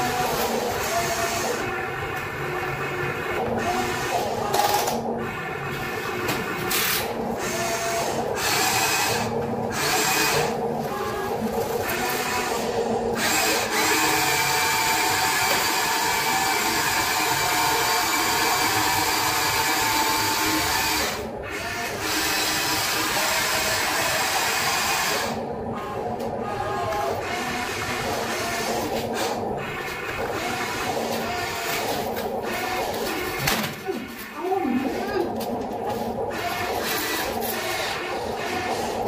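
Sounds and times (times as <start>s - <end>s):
electric gear motors whining: 0.0s - 39.0s.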